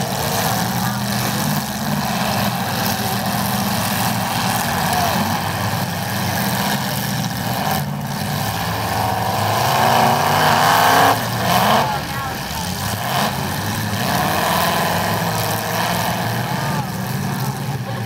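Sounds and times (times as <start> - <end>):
car engines revving together: 0.0 - 18.0.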